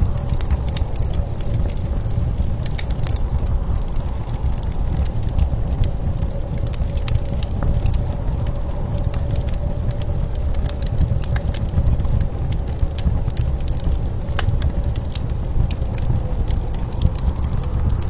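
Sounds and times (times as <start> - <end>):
blizzard wind rumbling: 0.0 - 18.0
wood fire crackling: 0.0 - 18.0.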